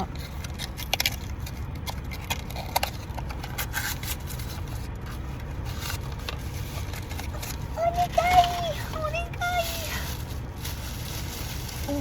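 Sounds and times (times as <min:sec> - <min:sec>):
paper packaging tearing and crinkling: 0:00.0 - 0:12.0.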